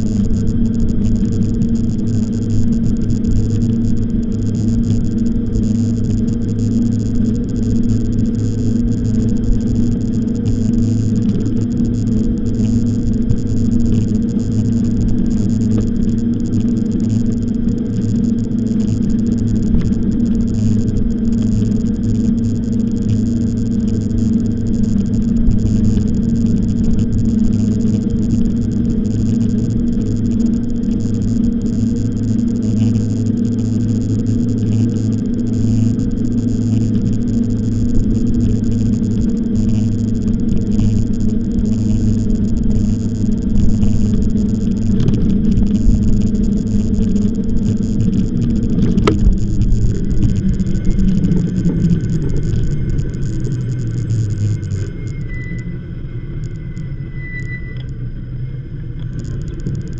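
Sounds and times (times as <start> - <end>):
e-bike riding hum: 0.0 - 59.9.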